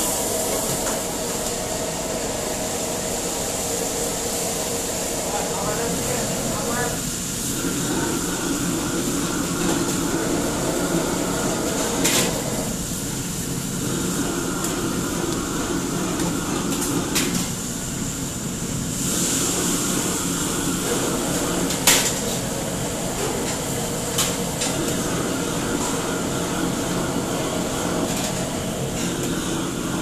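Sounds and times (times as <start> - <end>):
gas burners and fan roaring: 0.0 - 30.0.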